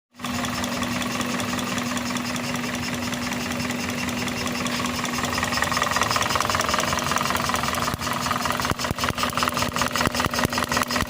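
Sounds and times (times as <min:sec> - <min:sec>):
car engine idling: 0:00.2 - 0:11.0
fast even ticking: 0:00.2 - 0:11.0.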